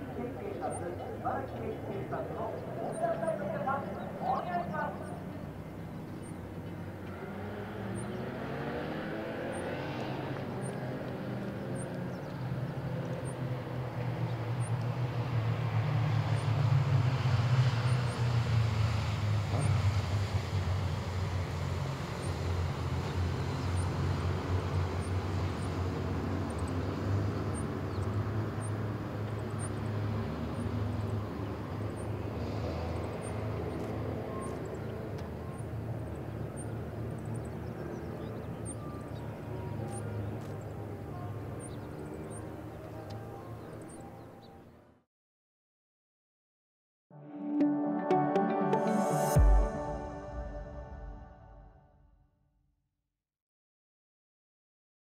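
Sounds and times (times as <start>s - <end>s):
distant motorcycle engines: 0.0s - 45.0s.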